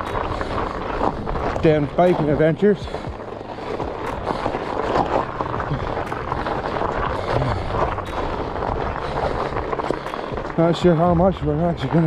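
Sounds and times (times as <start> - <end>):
bike tyres crunching over snow: 0.0 - 12.0.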